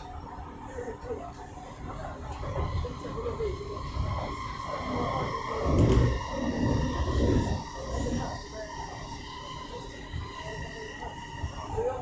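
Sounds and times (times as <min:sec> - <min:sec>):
electrical equipment whine: 0:00.0 - 0:12.0.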